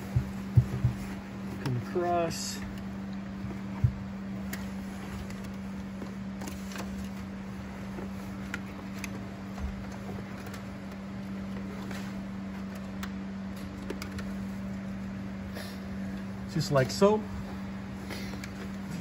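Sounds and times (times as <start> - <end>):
rustling of carpet and wire: 0.0 - 19.0
steady low hum: 0.0 - 19.0.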